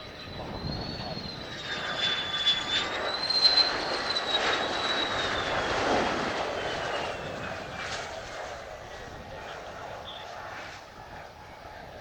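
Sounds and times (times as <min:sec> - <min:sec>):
jet engine whine and roar: 0:00.0 - 0:12.0.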